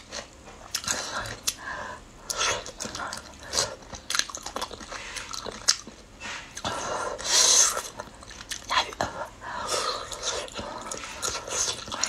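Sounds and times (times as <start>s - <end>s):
person biting and chewing: 2.3s - 12.0s.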